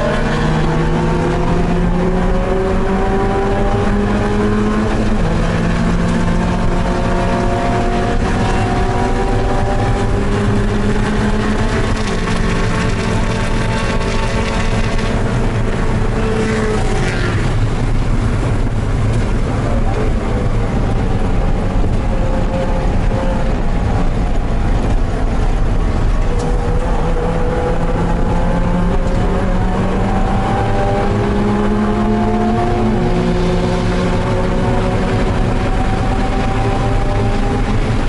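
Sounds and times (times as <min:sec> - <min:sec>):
race car engine accelerating: 0:00.0 - 0:38.0
road and tyre noise: 0:00.0 - 0:38.0.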